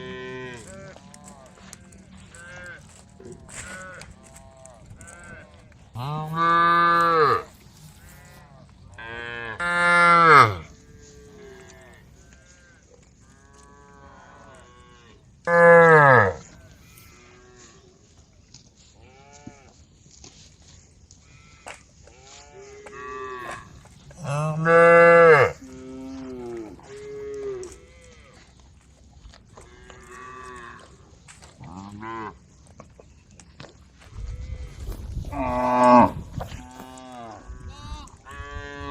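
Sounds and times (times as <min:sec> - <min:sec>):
cows mooing: 0:00.0 - 0:12.8, 0:13.4 - 0:17.8, 0:21.4 - 0:28.6, 0:29.5 - 0:32.4, 0:34.3 - 0:38.9.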